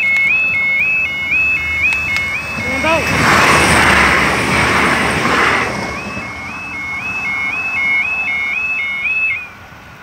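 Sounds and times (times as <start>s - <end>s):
level crossing warning alarm: 0.0s - 9.8s
train passing: 0.0s - 10.0s.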